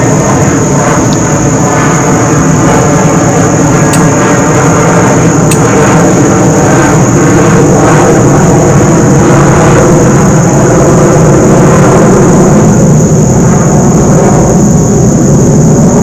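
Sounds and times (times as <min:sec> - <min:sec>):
engine drone: 0:00.0 - 0:16.0.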